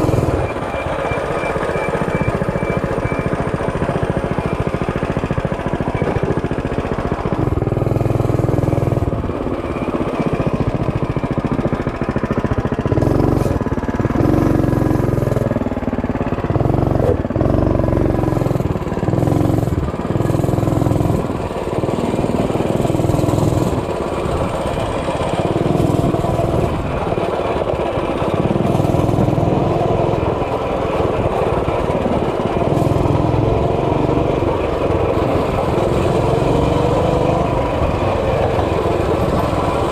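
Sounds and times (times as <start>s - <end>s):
small motorbike engine running: 0.0s - 39.9s.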